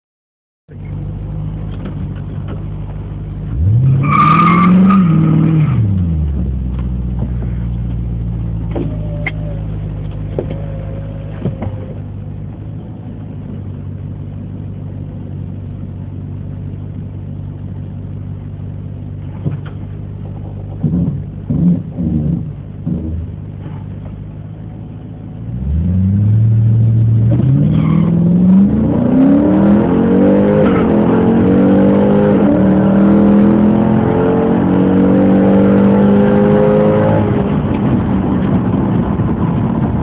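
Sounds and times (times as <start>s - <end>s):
car engine idling and revving: 0.7s - 40.0s.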